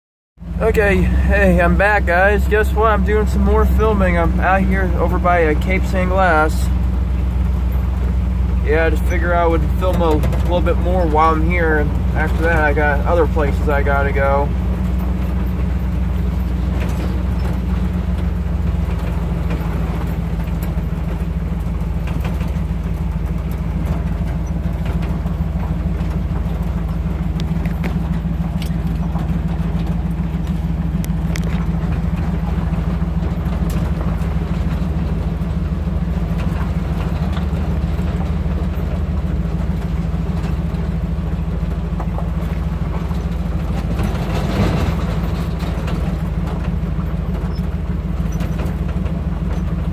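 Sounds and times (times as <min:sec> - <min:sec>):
truck engine and road rumble: 0:00.4 - 0:49.9.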